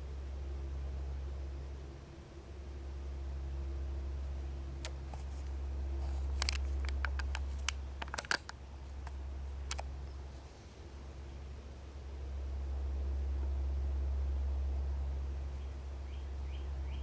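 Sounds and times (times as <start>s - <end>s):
low droning hum from the sky: 0.0s - 17.0s.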